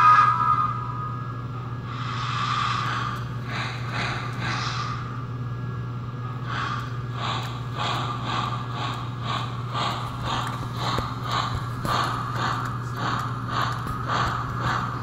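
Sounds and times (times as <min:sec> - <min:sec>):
electronic steam locomotive chuffs: 0:00.0 - 0:15.0
steady low hum: 0:00.0 - 0:15.0.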